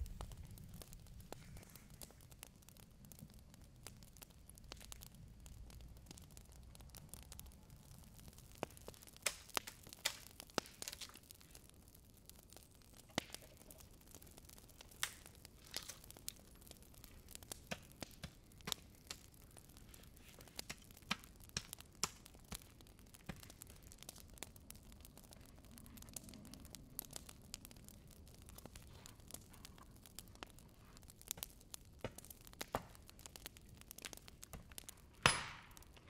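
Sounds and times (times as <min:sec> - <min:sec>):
wood snapping and cracking: 0:00.0 - 0:36.0.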